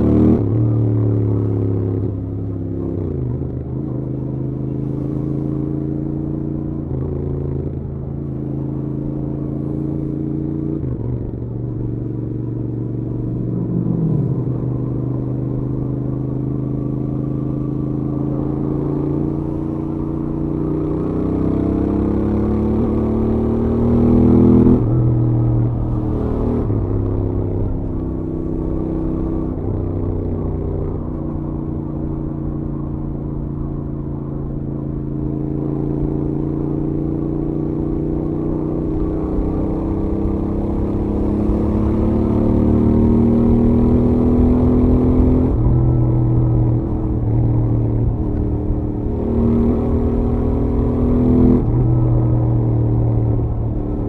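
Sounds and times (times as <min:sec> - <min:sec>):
motorcycle engine at highway speed: 0:00.0 - 0:54.0.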